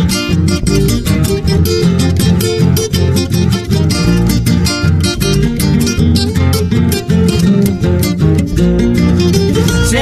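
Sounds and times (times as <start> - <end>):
acoustic guitars strumming chords: 0.0 - 10.0.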